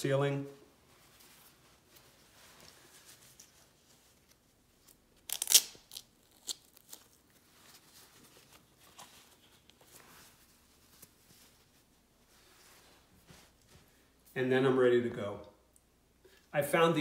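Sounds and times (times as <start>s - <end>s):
nylon fabric rustling: 0.1s - 14.2s.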